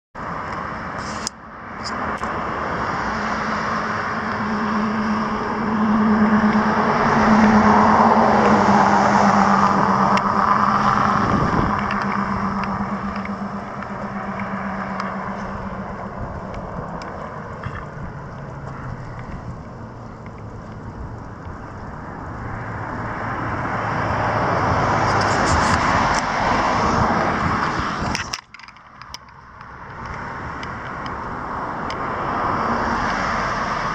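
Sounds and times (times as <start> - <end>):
cars passing on road: 0.2 - 33.9.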